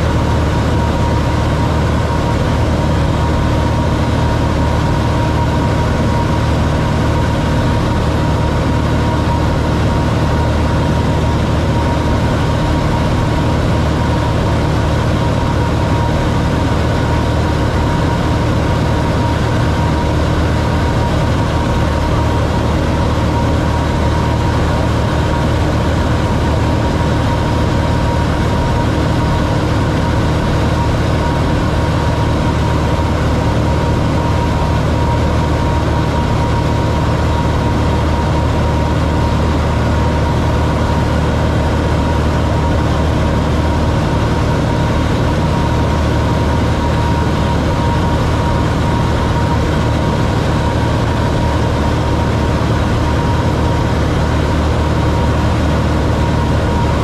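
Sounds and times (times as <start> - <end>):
aircraft engine drone in cockpit: 0.0 - 57.0.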